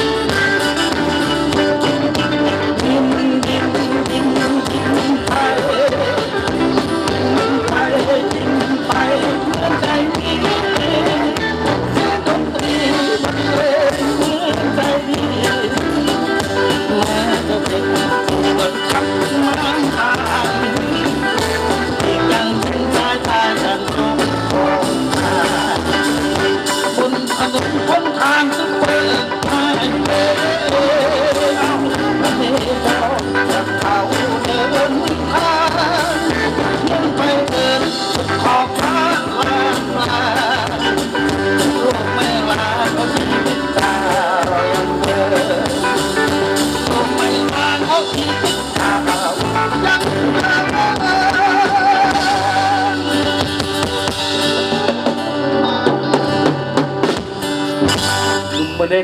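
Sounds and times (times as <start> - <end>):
live band playing a song: 0.0 - 59.0.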